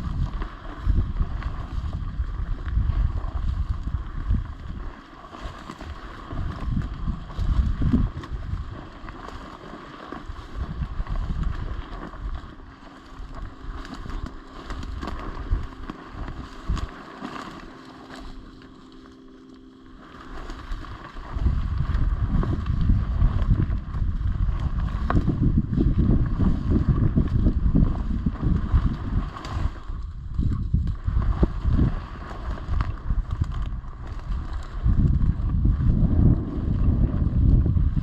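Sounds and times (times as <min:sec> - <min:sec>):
faint steady hum: 0:00.0 - 0:38.0
wind buffeting microphone: 0:00.0 - 0:38.0.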